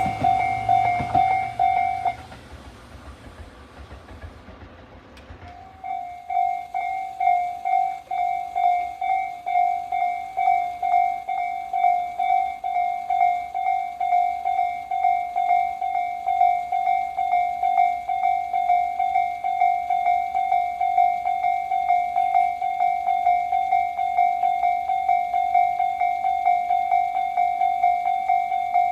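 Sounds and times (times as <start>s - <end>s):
level-crossing warning bell: 0.0s - 28.9s.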